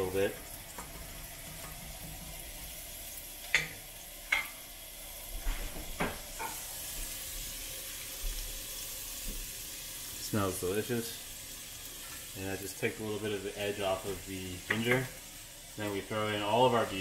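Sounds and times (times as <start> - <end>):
ginger sizzling in hot oil: 0.0 - 17.0.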